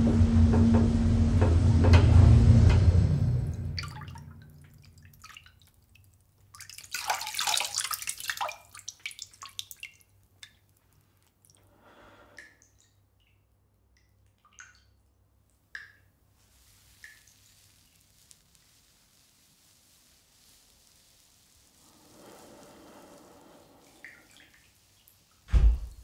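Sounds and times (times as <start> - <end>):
water splashing in a sink: 3.4 - 19.6, 20.2 - 26.0.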